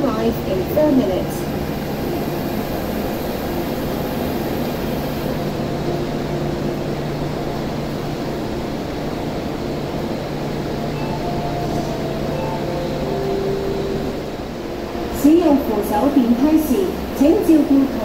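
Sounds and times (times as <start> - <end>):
distant train rumbling: 0.0 - 18.0.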